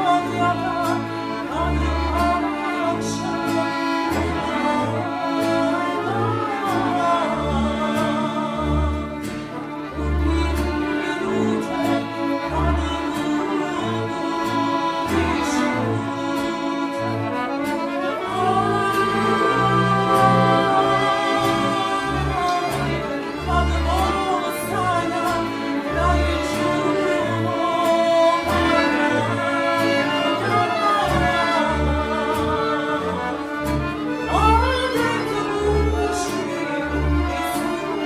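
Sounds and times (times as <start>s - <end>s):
accordions: 0.0s - 38.0s
double bass notes: 0.0s - 38.0s
flute and clarinet: 0.0s - 38.0s
violins playing melody: 0.0s - 38.0s.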